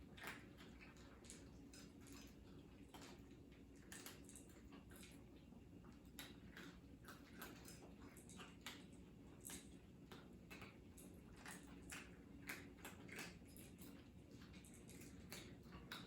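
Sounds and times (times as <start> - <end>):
cats chewing and lapping food: 0.0 - 16.0.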